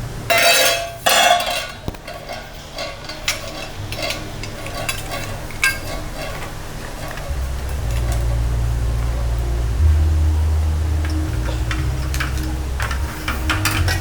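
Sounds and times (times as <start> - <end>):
utensil scraping and clinking pan: 0.3 - 9.2, 11.0 - 14.0.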